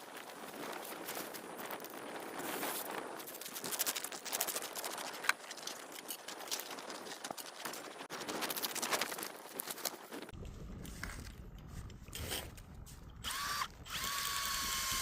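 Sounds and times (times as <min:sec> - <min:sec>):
crunching and rustling on snowy ice: 0:00.0 - 0:13.7.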